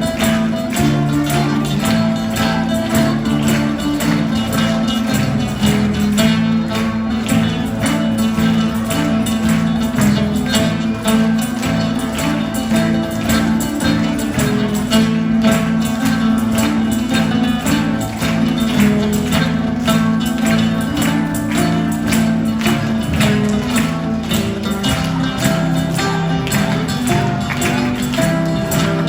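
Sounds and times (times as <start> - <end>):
strummed acoustic guitar: 0.0 - 29.0
tambourine beat: 0.0 - 29.0.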